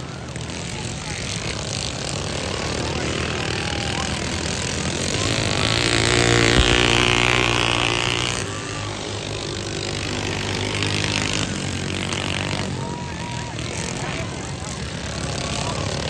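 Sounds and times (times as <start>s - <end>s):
lawn mower engines racing: 0.0s - 16.0s.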